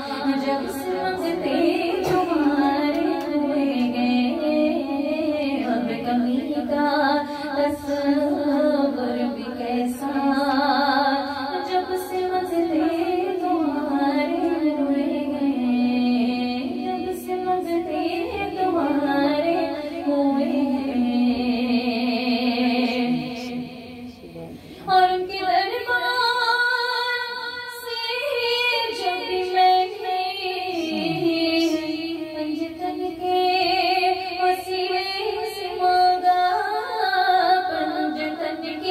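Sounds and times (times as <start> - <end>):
woman singing into a microphone: 0.0 - 38.9.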